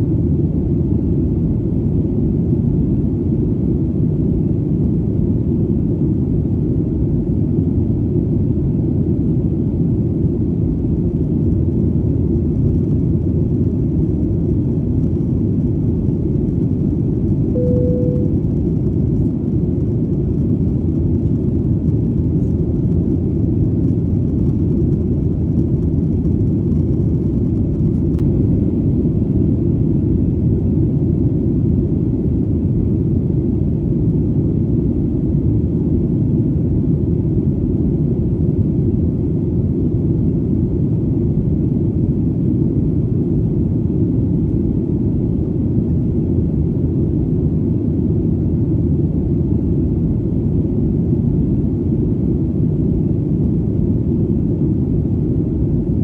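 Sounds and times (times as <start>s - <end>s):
airplane engine rumble: 0.0s - 56.0s.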